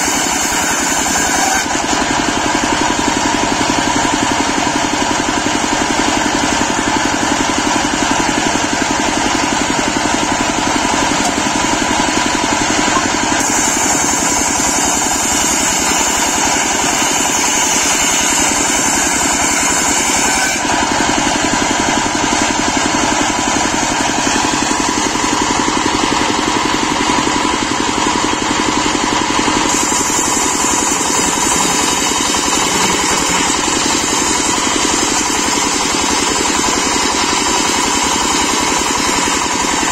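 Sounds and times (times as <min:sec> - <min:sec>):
circular saw cutting log: 0:00.0 - 0:39.9
stationary engine running: 0:00.0 - 0:39.9.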